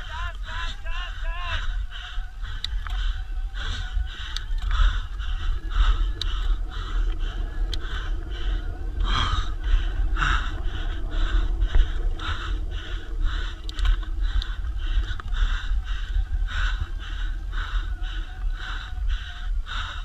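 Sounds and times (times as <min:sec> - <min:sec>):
person panting: 0:00.0 - 0:20.0
steady low rumble: 0:00.0 - 0:20.0.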